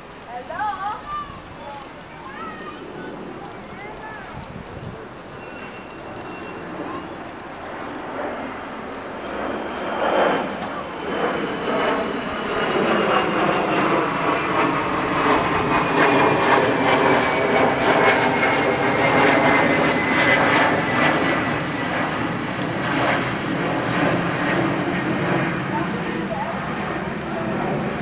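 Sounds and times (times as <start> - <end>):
aircraft engine droning overhead: 0.0 - 28.0.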